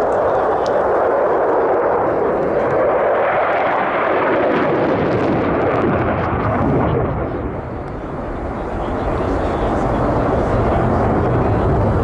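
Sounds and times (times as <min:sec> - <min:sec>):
jet fighter roar passing: 0:00.0 - 0:12.0.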